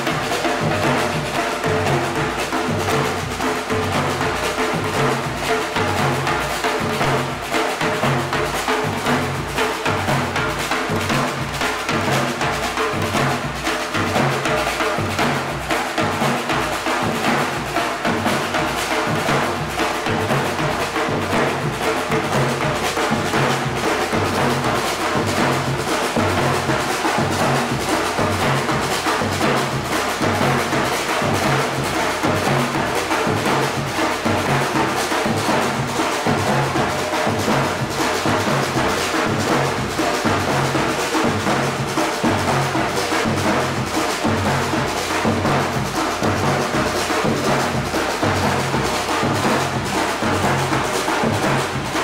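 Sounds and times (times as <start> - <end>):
samba percussion group drumming: 0.0 - 52.0.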